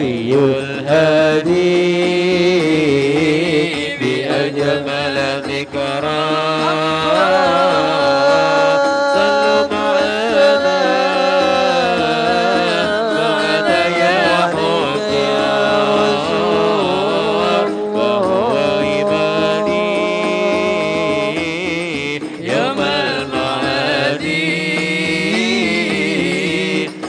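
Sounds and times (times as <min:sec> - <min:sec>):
frame drums beating: 0:00.0 - 0:27.0
man singing into a microphone: 0:00.0 - 0:27.0.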